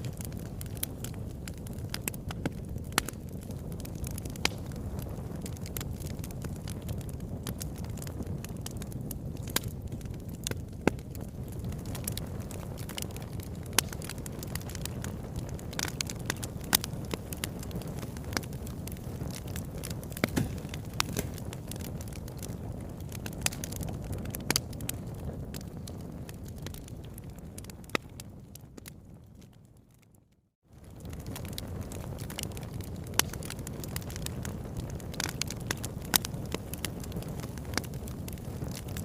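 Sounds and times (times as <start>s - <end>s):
low rumble of flames: 0.0s - 39.0s
wood fire crackling and popping: 0.0s - 39.0s.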